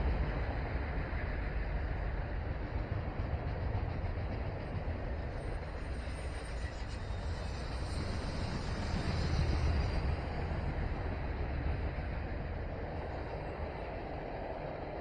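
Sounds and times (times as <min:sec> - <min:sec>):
freight train rumbling by: 0:00.0 - 0:15.0.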